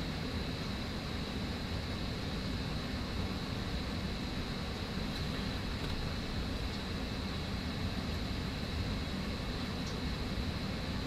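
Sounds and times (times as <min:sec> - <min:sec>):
faint high whine: 0:00.0 - 0:11.0
fan humming and hissing: 0:00.0 - 0:11.0.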